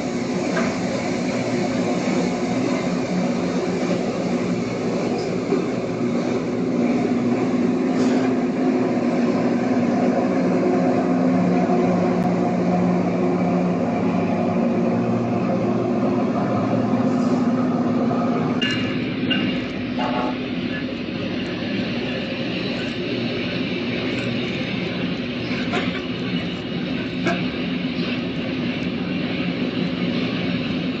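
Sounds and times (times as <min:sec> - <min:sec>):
diesel engine hum: 0:00.0 - 0:31.0.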